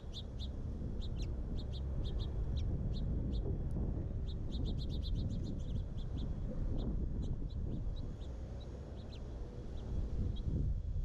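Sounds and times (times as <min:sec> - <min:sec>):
songbirds chirping: 0:00.0 - 0:10.5.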